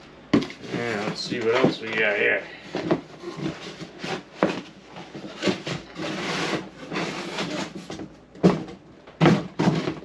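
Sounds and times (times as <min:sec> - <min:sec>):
cardboard scraping and rubbing: 0:00.4 - 0:10.0.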